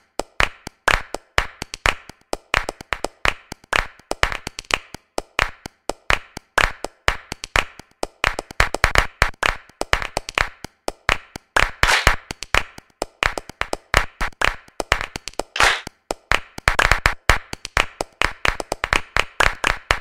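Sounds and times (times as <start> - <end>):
rhythmic hand claps and taps: 0.0 - 20.0.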